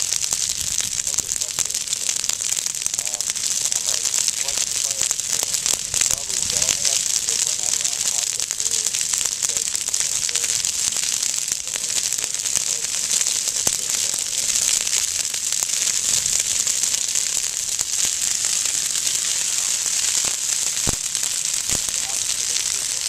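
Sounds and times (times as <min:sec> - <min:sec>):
brush fire crackling and hissing: 0:00.0 - 0:23.0
fire pops: 0:00.0 - 0:23.0.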